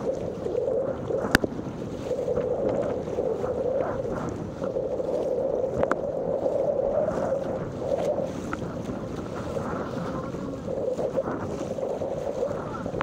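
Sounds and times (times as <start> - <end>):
paddle splashes: 0.0 - 13.0
water slapping against boat bow: 0.0 - 13.0
wind buffeting microphone: 0.0 - 13.0.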